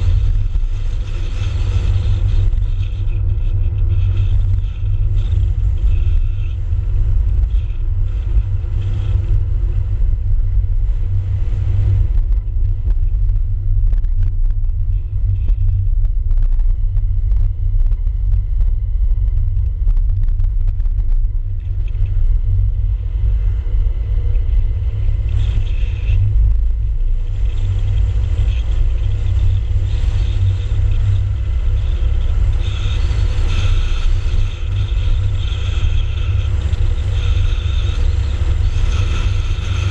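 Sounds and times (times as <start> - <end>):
car low rumble: 0.0 - 39.9.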